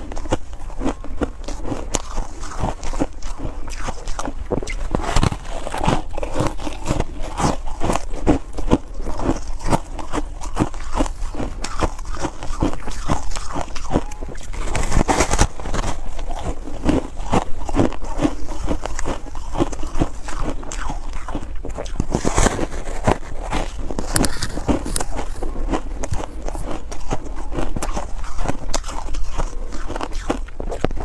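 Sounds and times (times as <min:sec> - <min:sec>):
crunchy ice chewing: 0:00.0 - 0:31.0.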